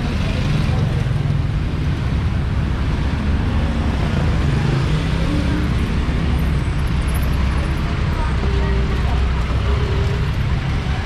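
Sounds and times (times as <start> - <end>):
motorcycle and car engines: 0.0 - 11.0
street traffic rumble: 0.0 - 11.0.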